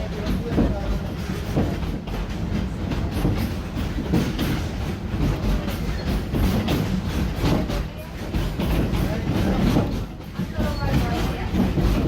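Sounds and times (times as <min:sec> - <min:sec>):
train cars rumbling on track: 0:00.0 - 0:12.0
wheels clacking on rails: 0:00.0 - 0:12.0.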